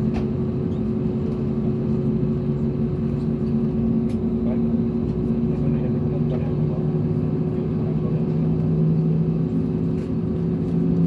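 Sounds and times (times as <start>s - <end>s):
airplane engines humming in cabin: 0.0s - 11.0s.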